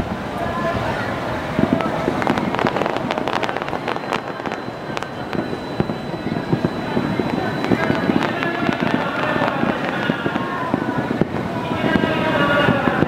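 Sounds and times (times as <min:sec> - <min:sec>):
fireworks bangs and crackles: 0:00.8 - 0:13.0.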